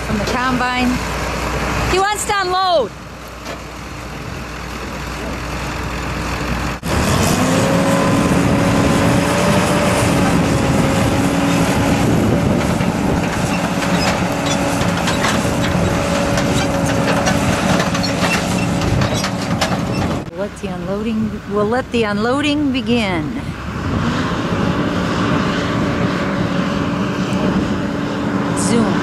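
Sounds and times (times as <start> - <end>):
combine harvester drone: 0.0 - 29.0.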